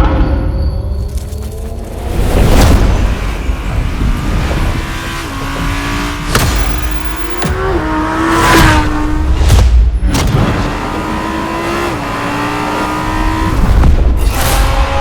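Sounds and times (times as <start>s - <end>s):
car engine at high revs: 1.1s - 15.0s.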